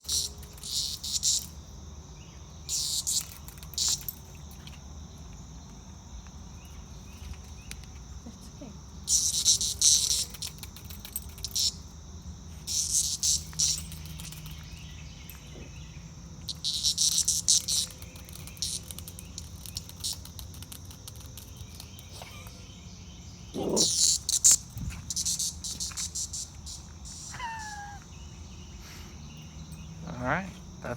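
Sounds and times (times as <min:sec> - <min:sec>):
cicada buzzing: 0:00.0 - 0:30.9.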